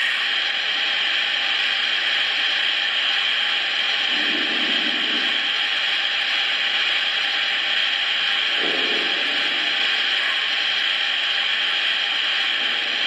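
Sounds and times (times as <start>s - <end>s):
steam hiss: 0.0s - 13.0s.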